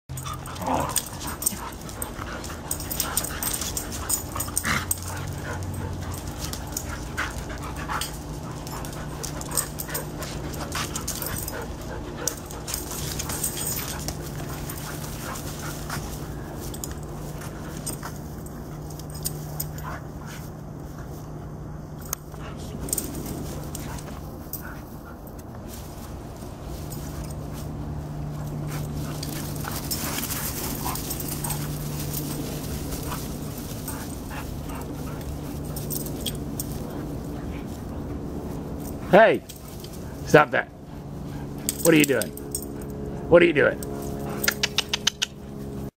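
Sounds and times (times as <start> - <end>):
dogs scuffling: 0.1 - 45.9
low hum: 0.1 - 45.9.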